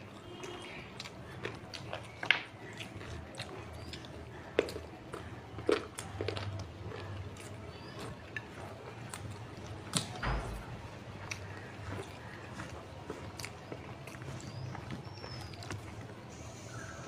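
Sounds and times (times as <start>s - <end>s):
chewing with mouth clicks: 0.0s - 17.0s.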